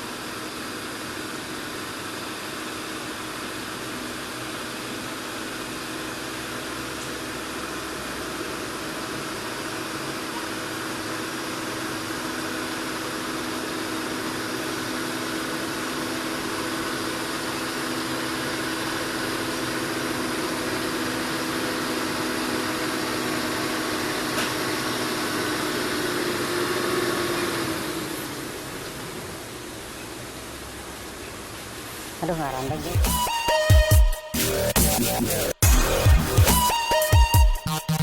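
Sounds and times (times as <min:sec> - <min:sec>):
truck diesel engine climbing: 0:00.0 - 0:37.0.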